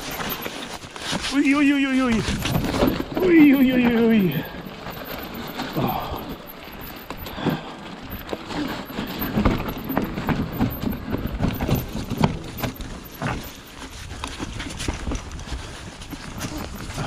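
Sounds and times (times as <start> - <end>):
bike knocks and rattles: 0.0 - 17.0
rush of bike tyre noise: 0.0 - 17.0.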